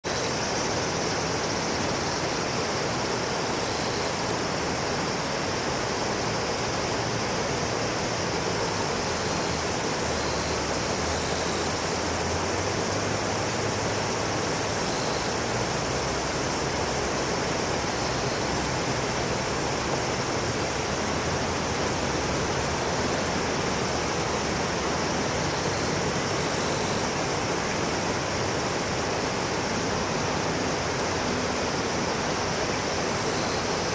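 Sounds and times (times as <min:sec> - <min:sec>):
river water flowing: 0:00.1 - 0:33.9.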